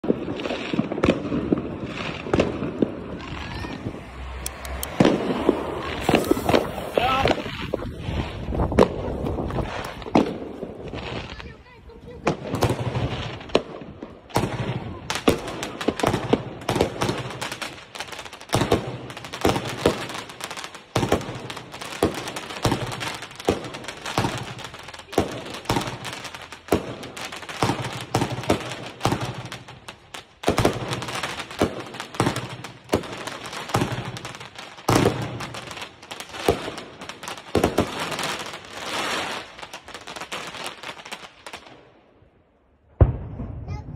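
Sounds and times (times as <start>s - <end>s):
sharp firework bursts: 0.0s - 41.9s.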